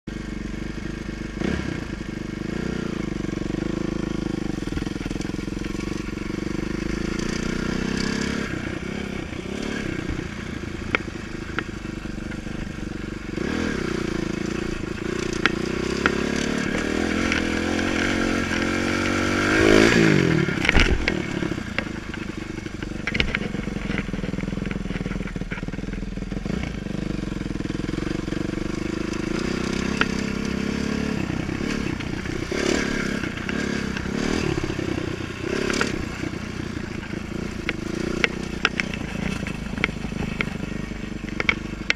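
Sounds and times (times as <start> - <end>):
dirt bike engine revving: 0.3 - 41.9
bike knocks and rattles: 4.4 - 8.3, 9.5 - 30.9, 31.5 - 41.9.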